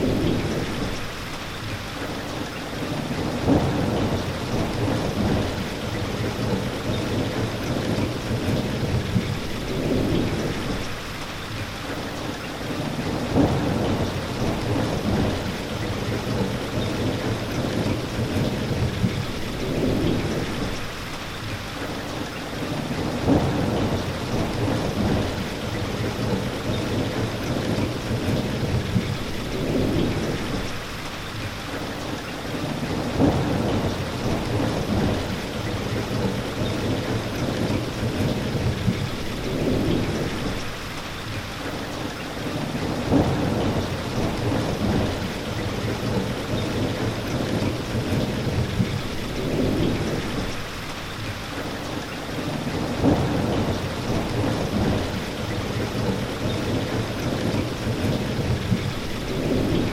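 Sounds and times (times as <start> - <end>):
steady rain falling: 0.0 - 59.9
low rolling thunder: 2.9 - 11.1, 13.0 - 21.0, 22.9 - 30.9, 32.6 - 40.9, 42.5 - 50.9, 52.4 - 59.9.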